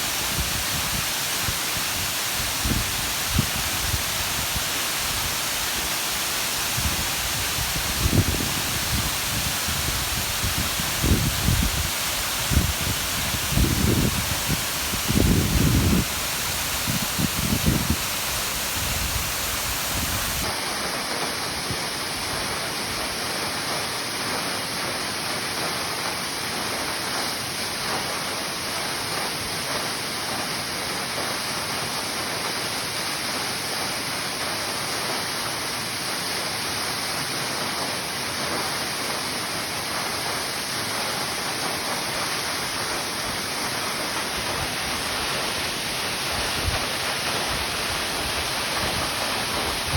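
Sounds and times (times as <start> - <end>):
water cascading over rock: 0.0 - 49.9.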